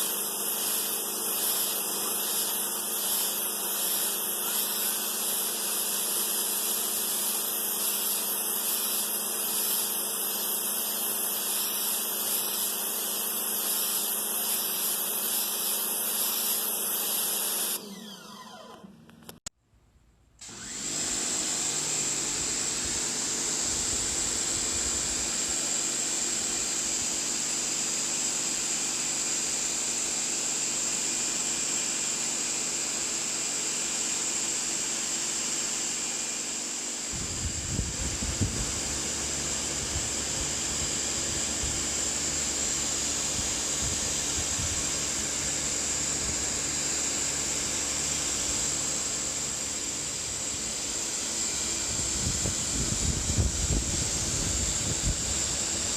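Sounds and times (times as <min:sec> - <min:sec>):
high-pressure water spray hissing: 0:00.0 - 0:17.8, 0:20.6 - 0:55.9
pressure washer motor and pump drone: 0:00.0 - 0:19.4, 0:20.4 - 0:55.9.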